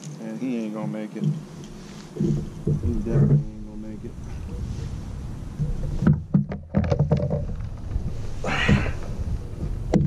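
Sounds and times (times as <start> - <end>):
knocks and clatter on kayak hull: 1.2 - 4.7, 5.4 - 10.0.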